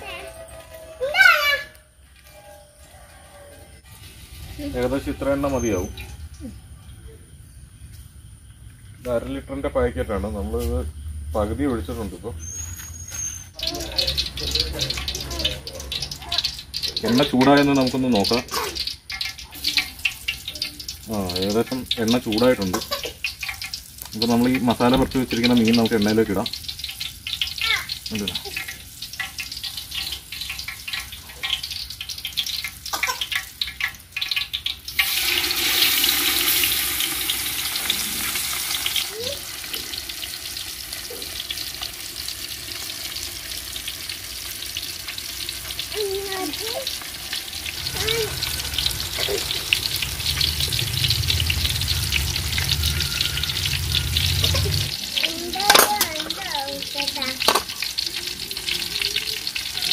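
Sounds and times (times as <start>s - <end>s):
fish sizzling in hot oil: 3.9s - 6.2s, 12.4s - 59.9s.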